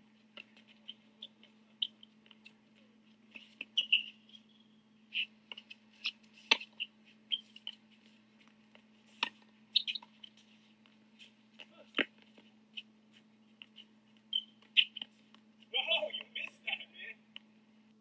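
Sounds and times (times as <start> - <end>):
sneakers squeaking: 0.1 - 16.8.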